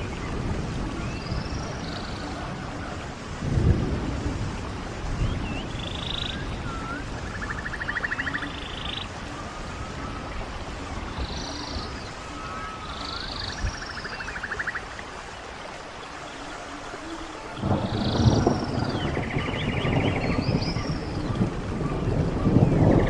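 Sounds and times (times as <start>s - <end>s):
wild birds singing: 0.0s - 3.2s, 5.1s - 23.0s
running stream water: 0.0s - 23.0s.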